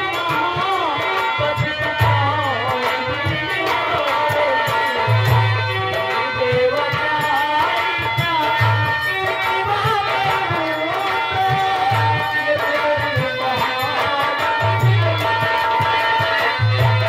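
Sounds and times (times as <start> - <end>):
hand drum beats: 0.0 - 17.0
person singing through pa: 0.0 - 17.0.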